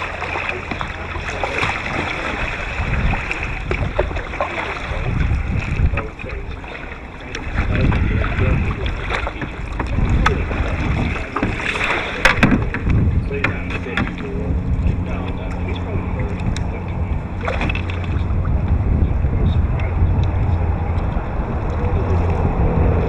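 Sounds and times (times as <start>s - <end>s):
water washing around kayak: 0.0s - 23.0s
wind buffeting microphone: 0.0s - 23.0s.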